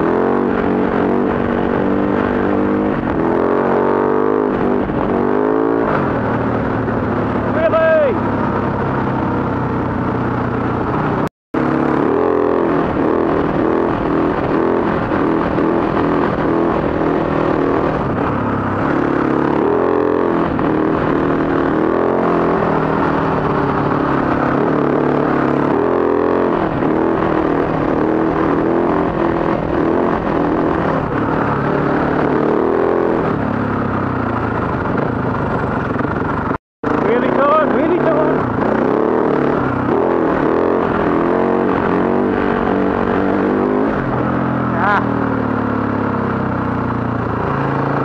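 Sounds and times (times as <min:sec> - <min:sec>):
dirt bike engine running: 0:00.0 - 0:48.0.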